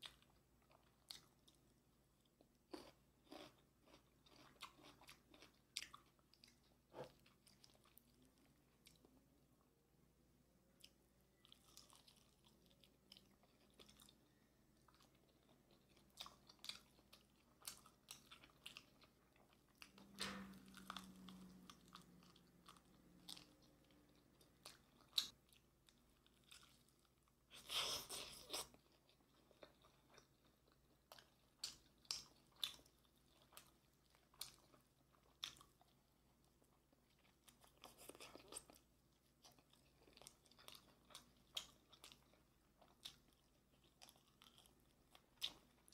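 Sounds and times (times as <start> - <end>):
crunchy chewing of fried chicken: 0.0 - 9.2, 10.8 - 45.9.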